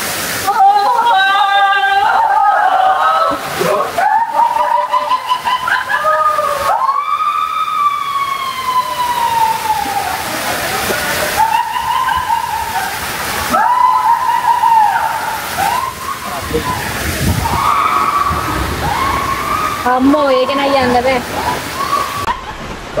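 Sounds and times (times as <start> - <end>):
water rushing and sloshing: 0.0 - 23.0
people screaming: 0.4 - 23.0.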